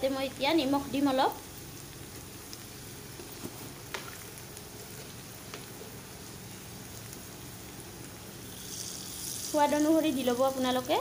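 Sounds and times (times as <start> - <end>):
onions sizzling in hot oil: 0.0 - 11.0
faint crackles: 1.2 - 11.0.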